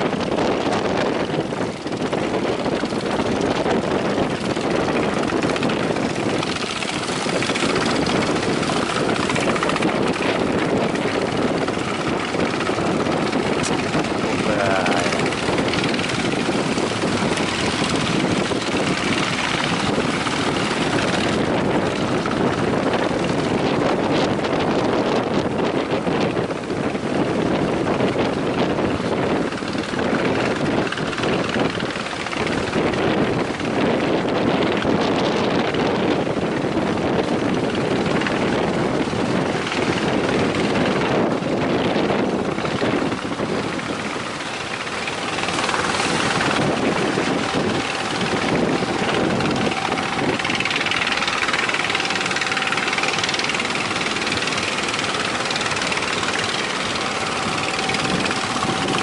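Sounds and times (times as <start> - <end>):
boat engine running: 0.0 - 59.0
sea: 0.0 - 59.0
wind on microphone: 0.0 - 59.0.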